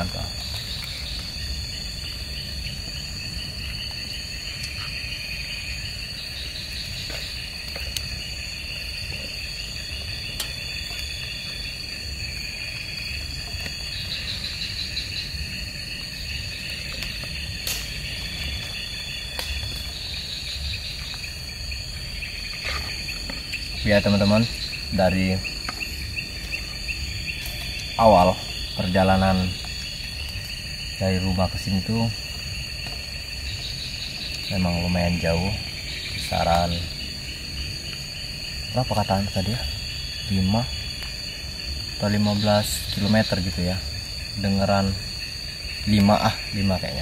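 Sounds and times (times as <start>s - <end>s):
insects buzzing: 0.0s - 47.0s
pulsing insect trills: 0.0s - 47.0s.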